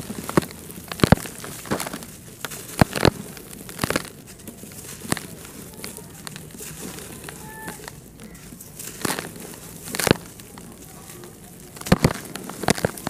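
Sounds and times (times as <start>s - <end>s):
crumbs pouring into dirt: 0.0s - 13.0s
dirt crunching and crumbling: 0.0s - 13.0s
sharp cracks: 0.0s - 13.0s.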